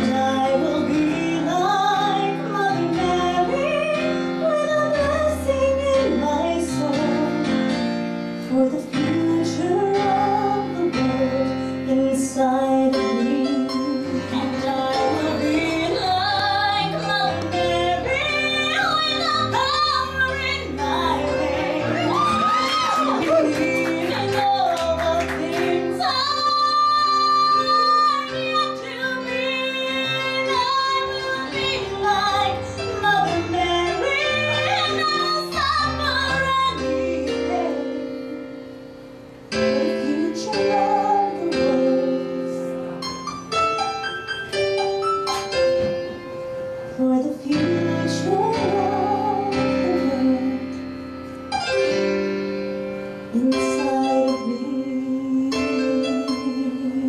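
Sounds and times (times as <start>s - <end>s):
woman singing: 0.0s - 7.8s, 8.4s - 38.5s, 39.5s - 42.8s, 46.9s - 50.9s, 53.3s - 57.0s
instrumental accompaniment: 0.0s - 57.0s.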